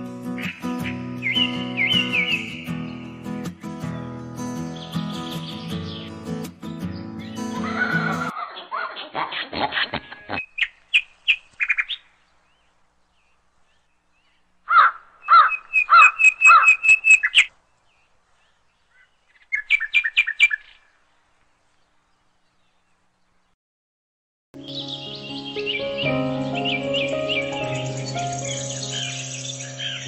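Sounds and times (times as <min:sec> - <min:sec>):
bird chirping: 0:00.4 - 0:06.3, 0:06.9 - 0:23.6, 0:24.6 - 0:30.0.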